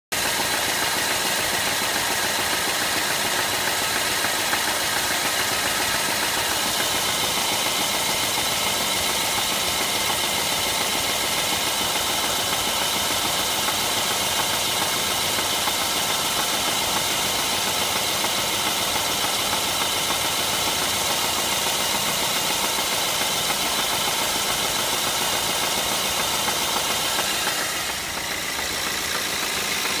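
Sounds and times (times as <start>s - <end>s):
car engine idling with knock: 0.1s - 30.0s.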